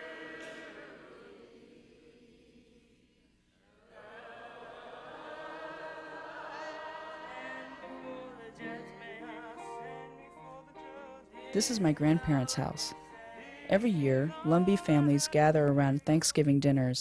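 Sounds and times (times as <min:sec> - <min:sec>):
voices singing a hymn in harmony: 0:00.0 - 0:16.6.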